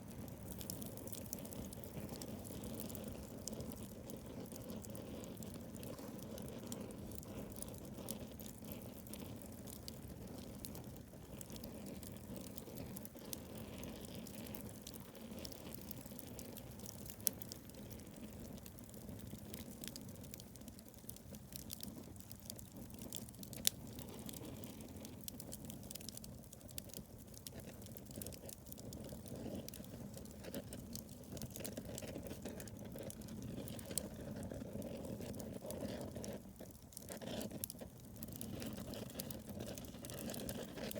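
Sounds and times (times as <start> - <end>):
fire crackles and pops: 0.0 - 40.9
low rush of flames: 0.0 - 40.9.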